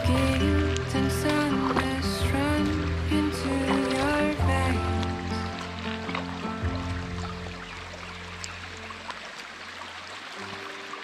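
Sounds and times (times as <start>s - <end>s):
melody with gliding notes: 0.0s - 9.2s.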